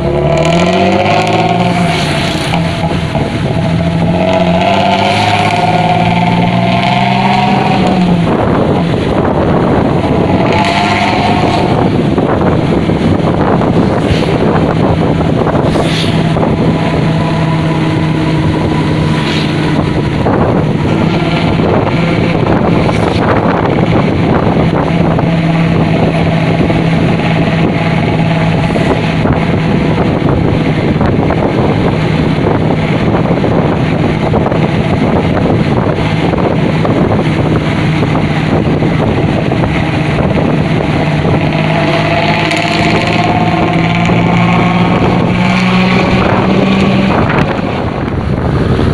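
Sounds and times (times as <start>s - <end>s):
diesel bus engine droning: 0.0s - 48.9s.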